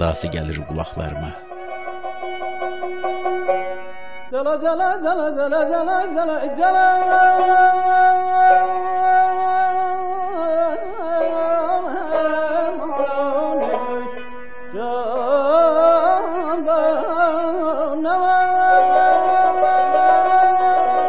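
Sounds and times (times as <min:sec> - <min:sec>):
ornamented string melody with trills: 0:00.0 - 0:21.0.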